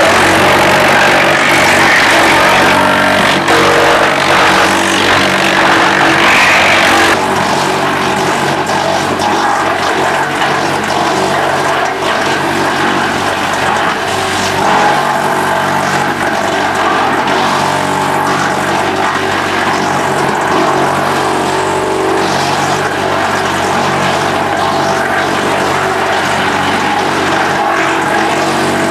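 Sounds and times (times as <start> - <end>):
wood chipper running: 0.0 - 28.9.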